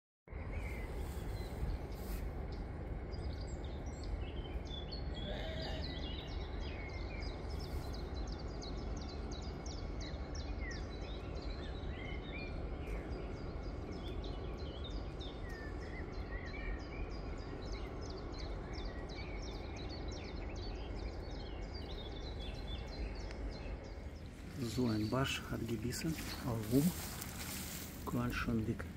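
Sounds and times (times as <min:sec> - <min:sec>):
low outdoor rumble: 0:00.3 - 0:28.9
small birds chirping: 0:00.3 - 0:28.9.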